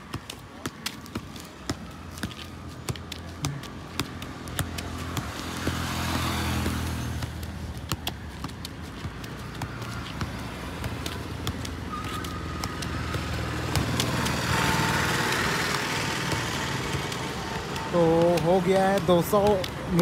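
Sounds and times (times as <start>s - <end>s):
football taps on foot: 0.0s - 14.3s, 15.7s - 20.0s
road traffic hum: 0.0s - 20.0s
vehicle engine: 1.3s - 20.0s.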